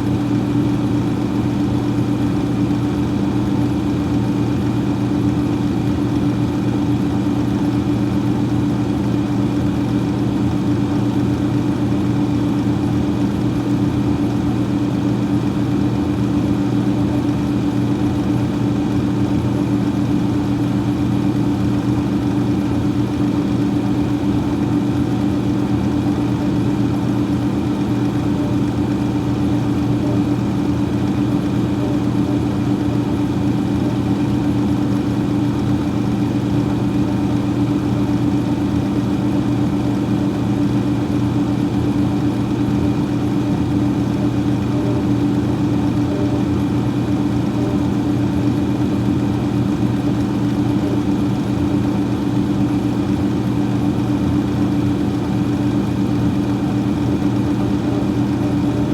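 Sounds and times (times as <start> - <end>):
freezer fan humming: 0.0 - 58.9.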